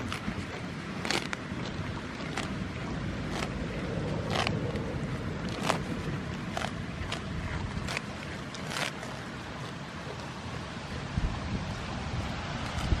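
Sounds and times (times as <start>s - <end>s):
goat tearing grass: 0.0s - 10.8s, 12.2s - 13.0s
steady low rumble: 0.0s - 13.0s.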